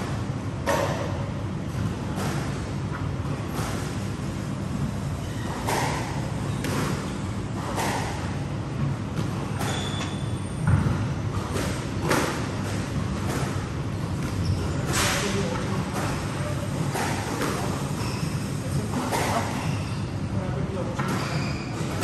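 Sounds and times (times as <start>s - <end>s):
squash ball hitting racket and walls: 0.0s - 20.2s, 20.9s - 22.0s
steady low hum: 0.0s - 22.0s.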